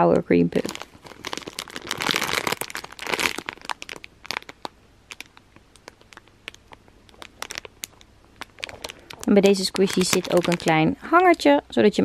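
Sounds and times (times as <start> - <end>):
plastic packaging crinkling: 0.5 - 11.5.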